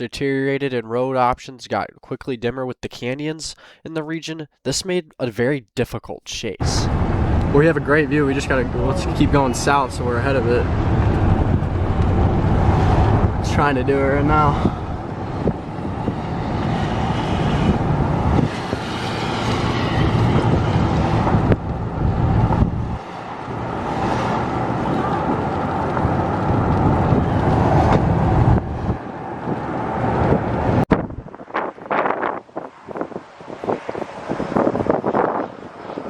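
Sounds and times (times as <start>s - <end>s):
car driving road noise: 6.6s - 36.0s.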